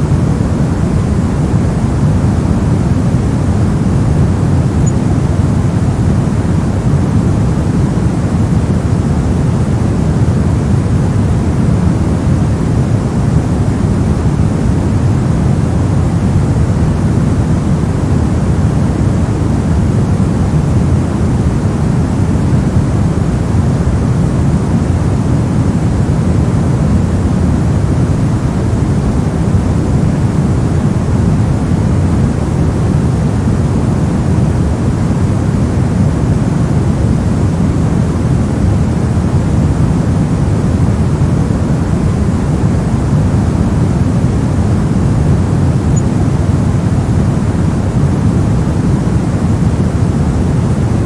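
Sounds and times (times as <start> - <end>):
white noise: 0.0 - 51.0.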